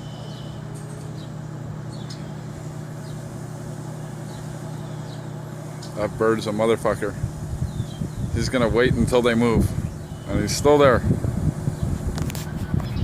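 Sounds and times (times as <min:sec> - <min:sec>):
low hum of city traffic: 0:00.0 - 0:13.0.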